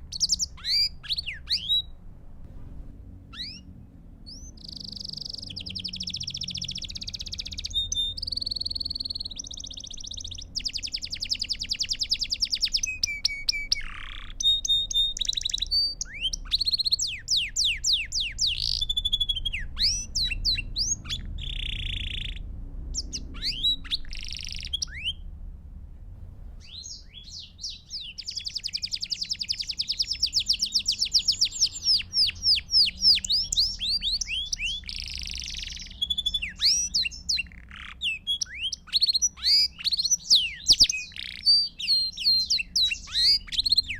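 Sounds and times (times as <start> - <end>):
canary singing trills: 0.0 - 2.1, 3.2 - 25.4, 26.6 - 43.9.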